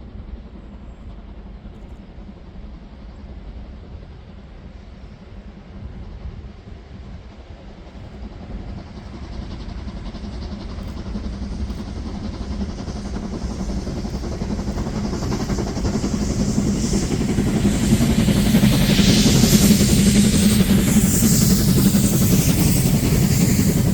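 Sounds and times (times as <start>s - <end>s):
steam locomotive running: 0.0s - 23.9s.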